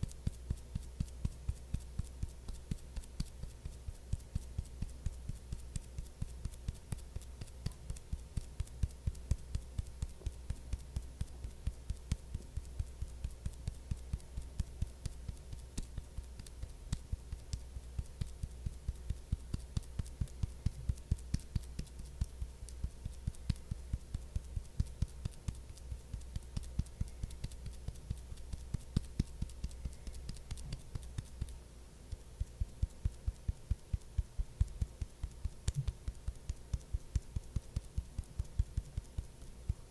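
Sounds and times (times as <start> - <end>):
rhythmic soft tapping: 0.0 - 39.9
steady low hum: 0.0 - 39.9.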